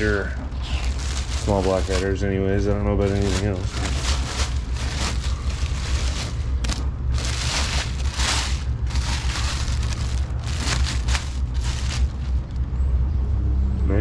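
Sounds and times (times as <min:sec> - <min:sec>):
packaging rustling and crinkling: 0:00.0 - 0:02.2, 0:02.9 - 0:12.6
steady low hum: 0:00.0 - 0:14.0.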